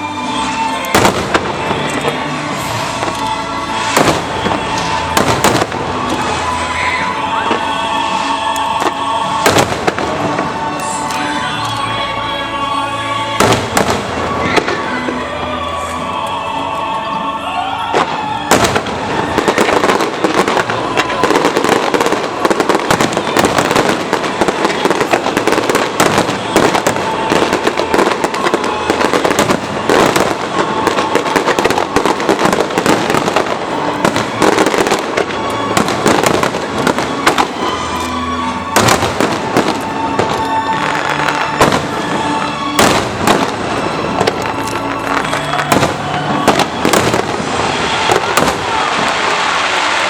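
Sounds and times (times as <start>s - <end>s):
fireworks bangs and crackling: 0.0s - 17.2s, 17.8s - 50.0s
music playing: 0.0s - 50.0s.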